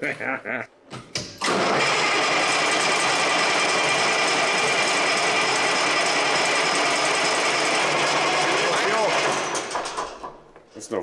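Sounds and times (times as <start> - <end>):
starter cranking diesel engine: 1.4 - 10.4.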